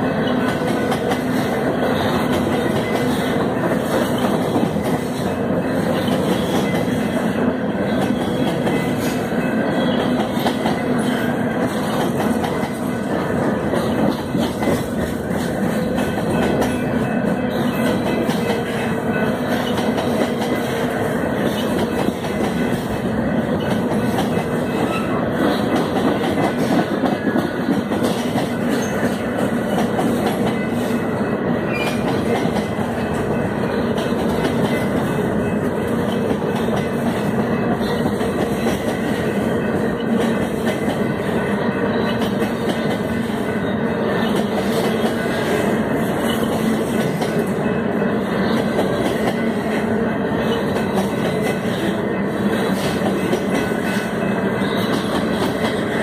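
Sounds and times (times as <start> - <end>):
steel train wheels rumbling on rail: 0.0 - 56.0.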